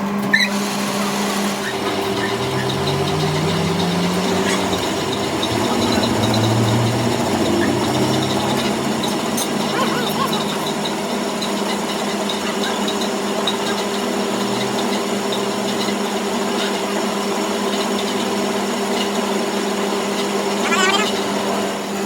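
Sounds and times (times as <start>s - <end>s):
machine humming: 0.0s - 18.8s.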